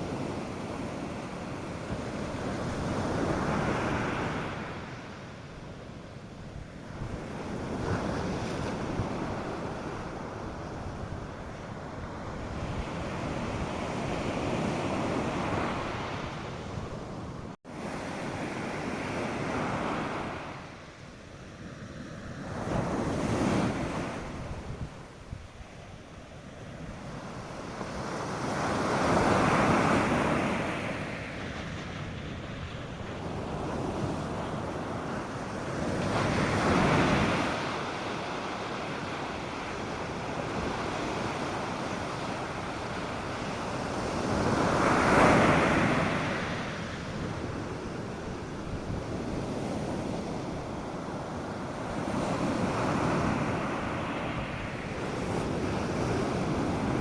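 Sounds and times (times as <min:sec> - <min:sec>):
light wind: 0:00.0 - 0:57.0
waves breaking on a beach: 0:00.0 - 0:57.0.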